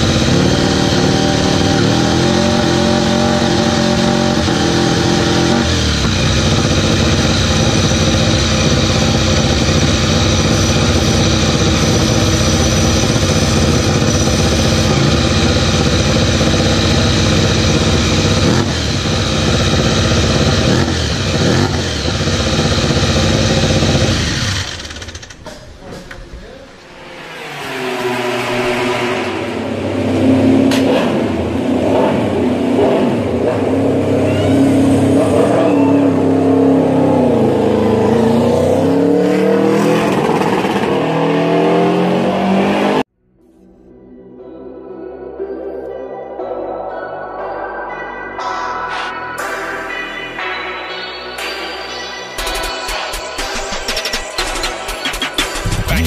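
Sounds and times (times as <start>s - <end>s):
motorcycle engine revving: 0.0s - 26.1s, 26.7s - 43.2s, 52.4s - 56.0s.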